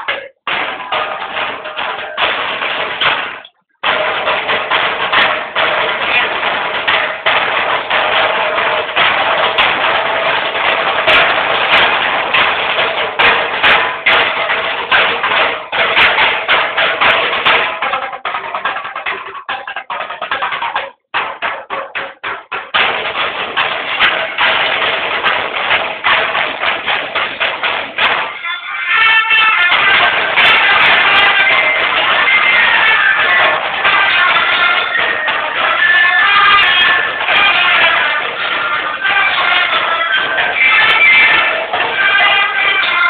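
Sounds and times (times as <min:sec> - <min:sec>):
marching drum band: 0:00.0 - 0:28.4, 0:29.0 - 0:43.0
separate drum hits: 0:00.0 - 0:43.0.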